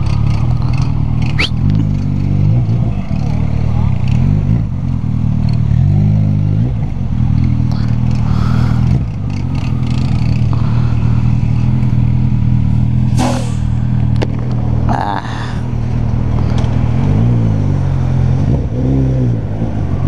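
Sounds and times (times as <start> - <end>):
motorcycle engine droning: 0.0 - 20.0.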